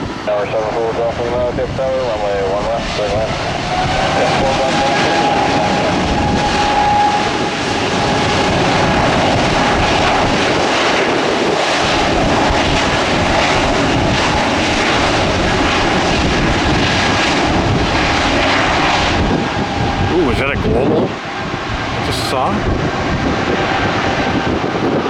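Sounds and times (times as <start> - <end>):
aircraft engines running: 0.0 - 25.0
engine whine: 0.0 - 25.0.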